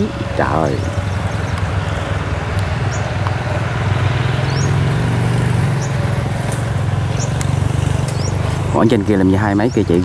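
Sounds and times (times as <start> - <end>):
diesel engines droning: 0.0 - 10.0.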